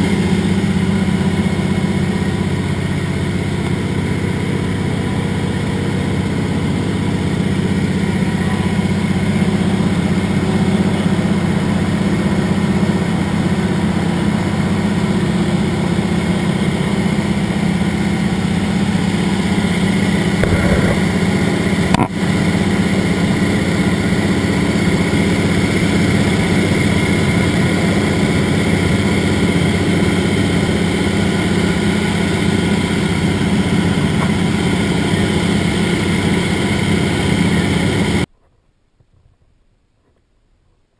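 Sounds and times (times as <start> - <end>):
plane engine and propeller: 0.0 - 38.3.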